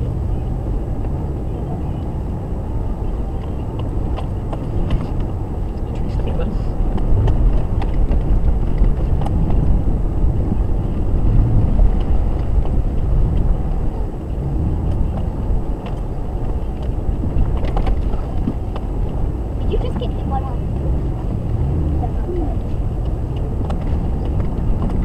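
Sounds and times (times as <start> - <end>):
low vehicle cabin rumble: 0.0 - 25.0.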